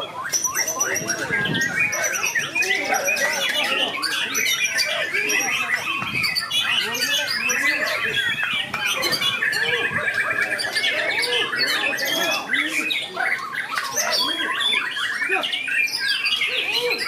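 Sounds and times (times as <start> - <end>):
bird trilling: 0.0 - 17.0
birds singing in chorus: 0.0 - 17.0.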